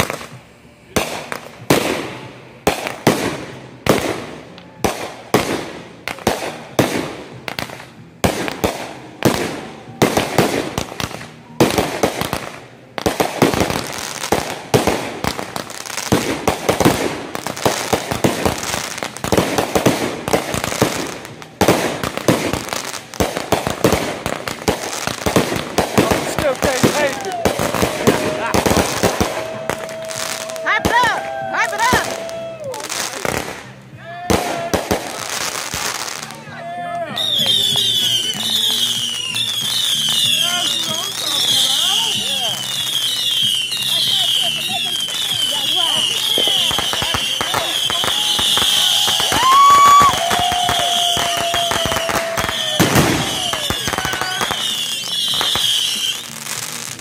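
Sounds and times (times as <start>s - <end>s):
fireworks launching and bursting: 0.0s - 57.0s.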